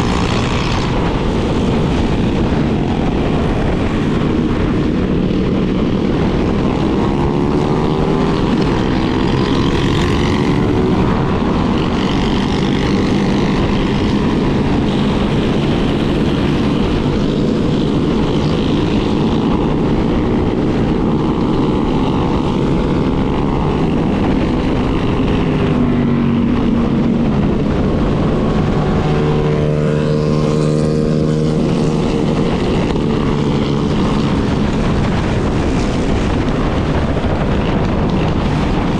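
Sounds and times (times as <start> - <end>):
motorcycle engines revving: 0.0 - 38.9
riding noise rush: 0.0 - 38.9.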